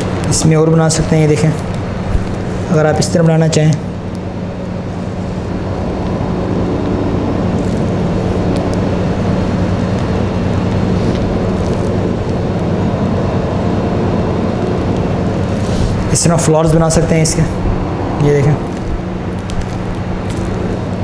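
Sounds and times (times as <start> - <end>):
machine drone with low hum: 0.0 - 21.0.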